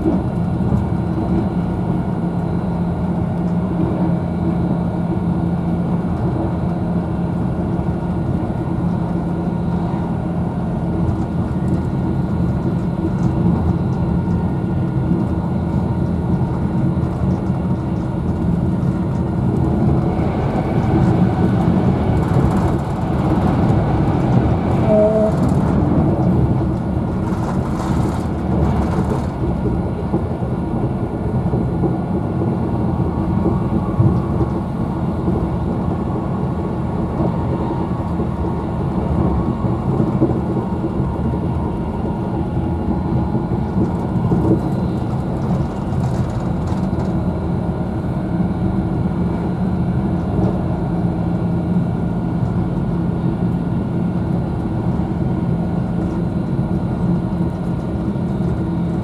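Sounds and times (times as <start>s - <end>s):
train wheels on rails rumble: 0.0s - 59.0s.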